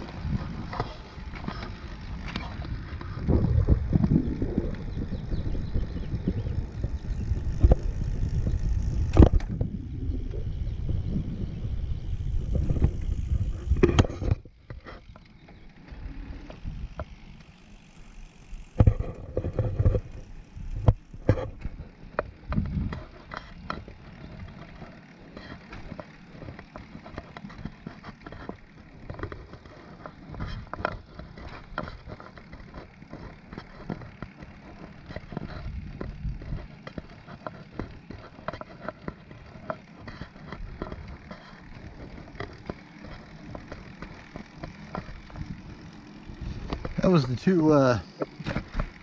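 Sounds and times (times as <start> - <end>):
bicycle wheels rolling: 0.0 - 49.0.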